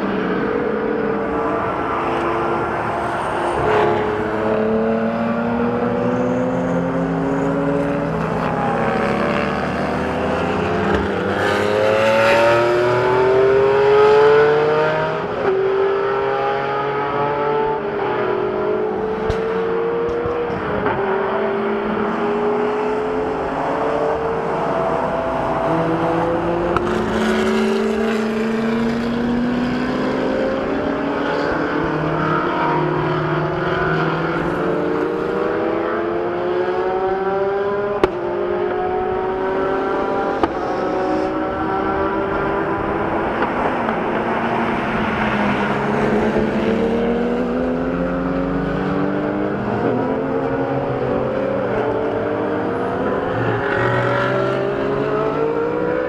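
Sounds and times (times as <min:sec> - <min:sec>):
sports car engines accelerating: 0:00.0 - 0:56.0.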